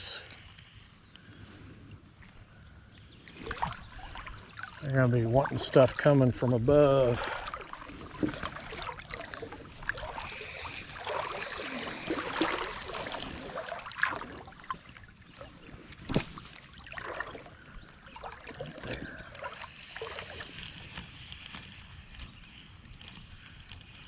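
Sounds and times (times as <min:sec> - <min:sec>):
water sloshing in a creek: 0:00.0 - 0:23.8.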